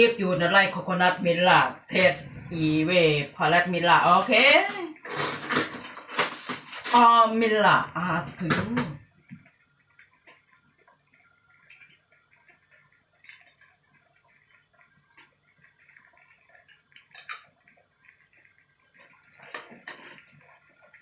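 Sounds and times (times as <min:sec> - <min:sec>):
soup bubbling in a pot: 0:00.0 - 0:05.1, 0:05.8 - 0:21.0.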